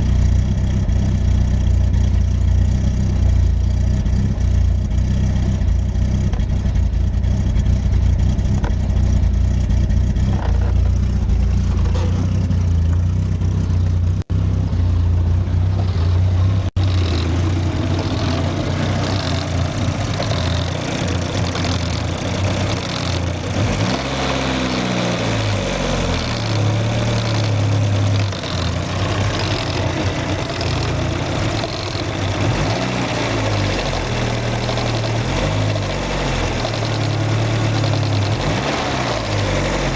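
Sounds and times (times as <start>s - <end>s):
car engine idling unevenly: 0.0s - 23.8s, 25.4s - 39.9s.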